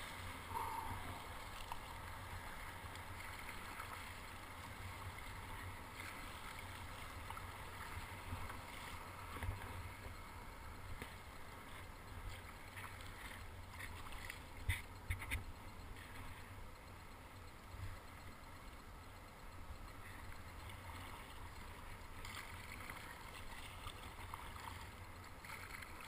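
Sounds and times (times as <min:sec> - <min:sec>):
water sloshing around kayak: 0:00.0 - 0:19.2, 0:19.9 - 0:26.0.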